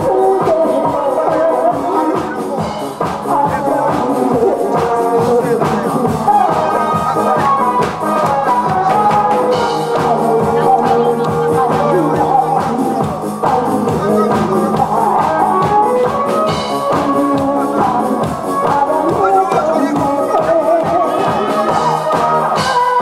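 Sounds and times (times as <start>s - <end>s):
backing track with steady beat: 0.0s - 23.0s
woman singing into microphone: 0.0s - 23.0s.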